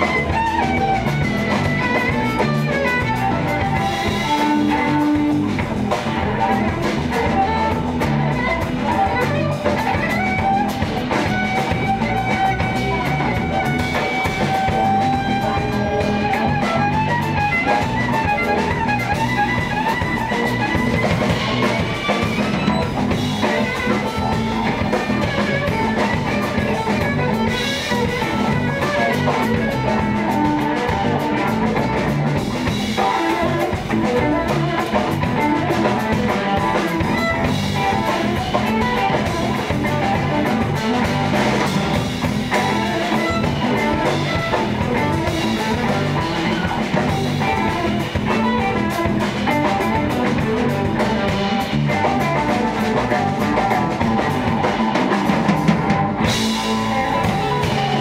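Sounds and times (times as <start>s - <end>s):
drum kit: 0.0s - 58.0s
electric bass: 0.0s - 58.0s
electric guitar: 0.0s - 58.0s.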